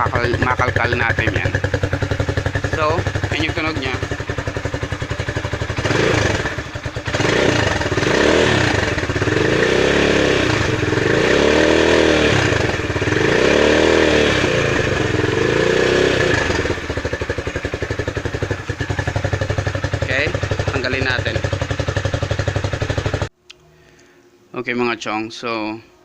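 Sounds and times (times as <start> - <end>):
motorcycle engine idling and revving: 0.0 - 23.3.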